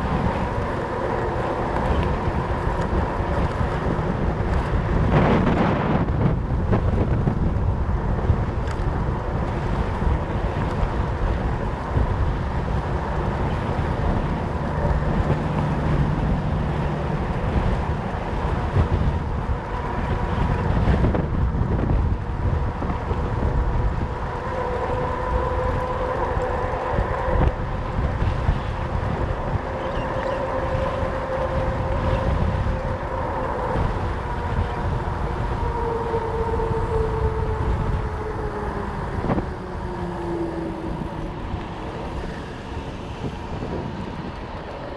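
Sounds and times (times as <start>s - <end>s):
hum of bike tyres rolling: 0.0s - 44.9s
wind buffeting microphone: 0.0s - 44.9s.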